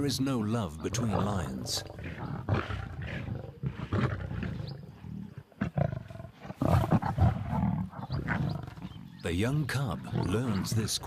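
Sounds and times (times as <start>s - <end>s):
lions growling and snarling: 0.0s - 11.0s.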